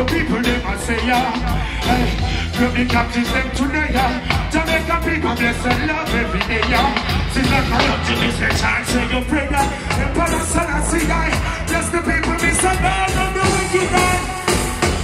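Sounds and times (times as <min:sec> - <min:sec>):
man singing: 0:00.0 - 0:15.0
reggae band playing: 0:00.0 - 0:15.0.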